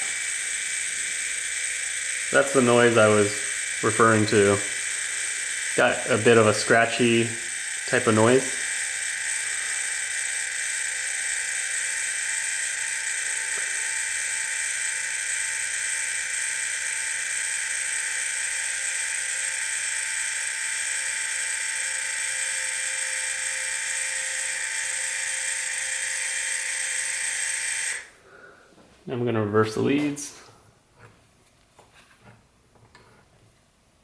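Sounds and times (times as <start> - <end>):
electric actuator motor whining: 0.0 - 28.2.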